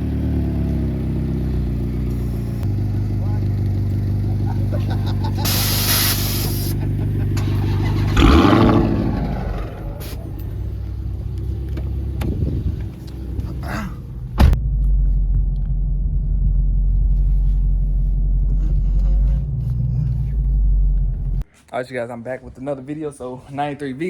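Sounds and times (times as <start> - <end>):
car engine low rumble: 0.0 - 21.5.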